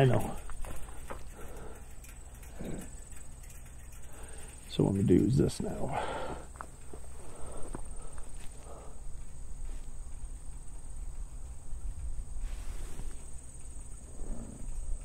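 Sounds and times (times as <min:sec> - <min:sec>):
insects chirring high-pitched: 0:00.0 - 0:15.0
low gusty rumble: 0:00.0 - 0:15.0.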